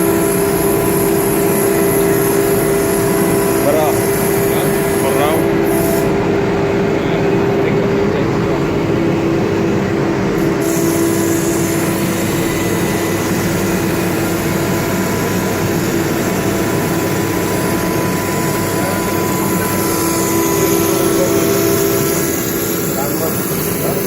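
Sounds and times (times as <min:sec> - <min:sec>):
cnc router droning: 0:00.0 - 0:24.0.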